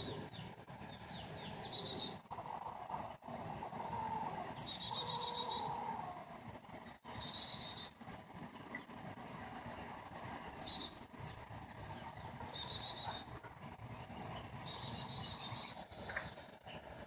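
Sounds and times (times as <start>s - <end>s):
songbird singing: 0.0s - 2.3s, 3.0s - 6.0s, 6.6s - 9.0s, 9.6s - 17.0s.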